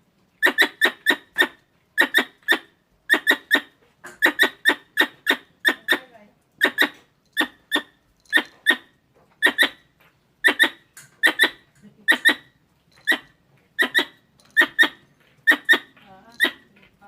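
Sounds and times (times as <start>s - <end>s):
squirrel chipping: 0.4s - 17.0s.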